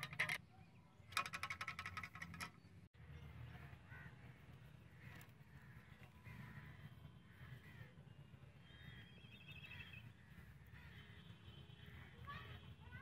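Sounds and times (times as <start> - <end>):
faint birds calling: 0.0 - 13.0.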